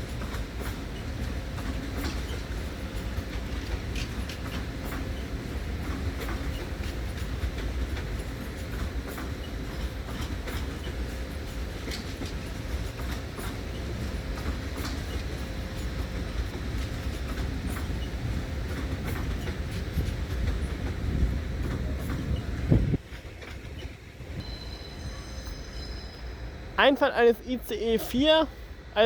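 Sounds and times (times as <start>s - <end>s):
wheels clicking over rail joints: 0.0s - 24.4s
train rolling rumble: 0.0s - 29.0s.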